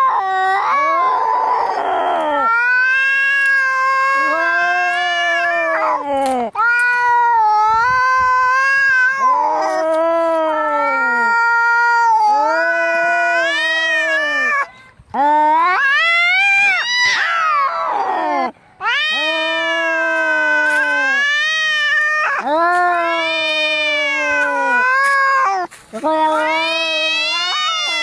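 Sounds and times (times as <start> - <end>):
cats yowling in a fight: 0.0 - 28.0.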